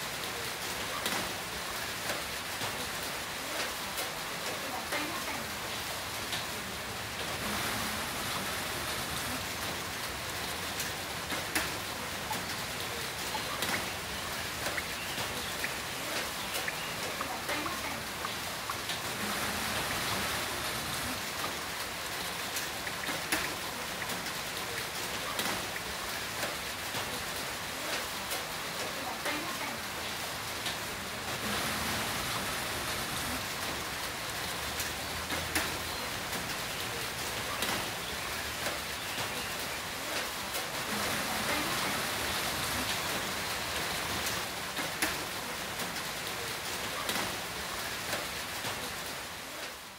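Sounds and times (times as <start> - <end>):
heavy rain hissing: 0.0 - 49.9
raindrops ticking: 0.0 - 49.9.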